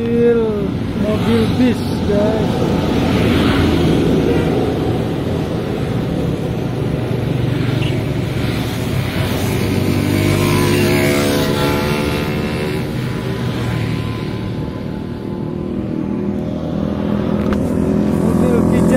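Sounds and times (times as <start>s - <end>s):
motorcycles passing: 0.0s - 18.9s
steady engine hum: 0.0s - 18.9s.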